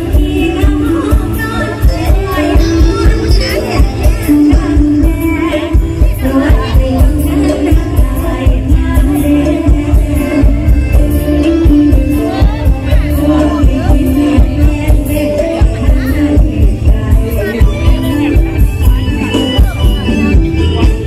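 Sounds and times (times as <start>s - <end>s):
heavy drum beat: 0.0s - 21.0s
live band playing up-tempo song: 0.0s - 21.0s
person singing: 0.0s - 21.0s.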